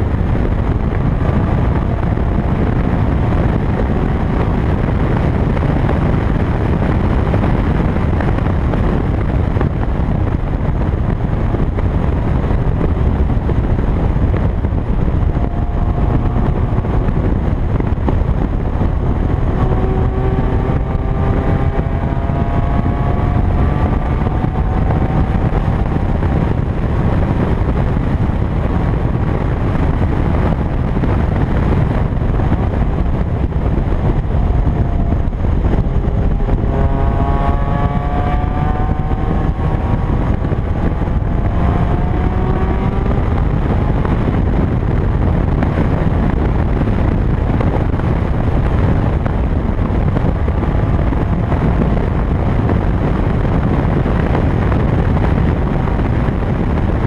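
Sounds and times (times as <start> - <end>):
car engine accelerating: 0.0 - 57.0
wind rushing over microphone: 0.0 - 57.0.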